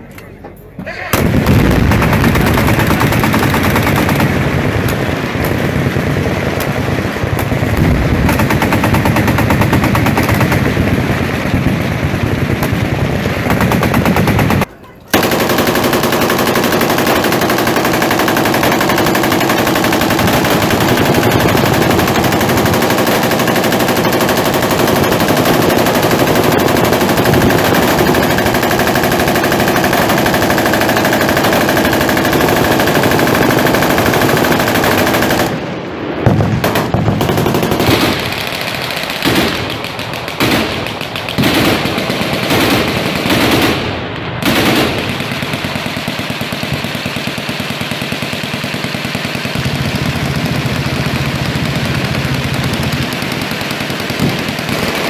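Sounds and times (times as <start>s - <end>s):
machine guns firing: 1.1s - 55.0s.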